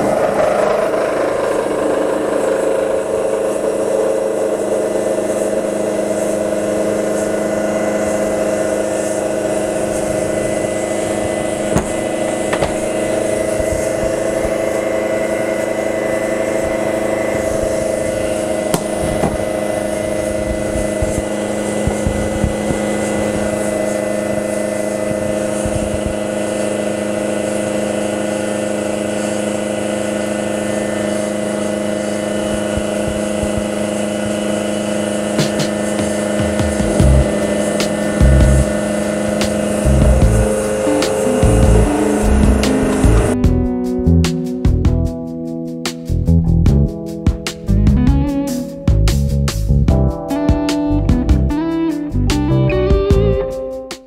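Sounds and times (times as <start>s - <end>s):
milling machine cutting metal: 0.0s - 43.4s.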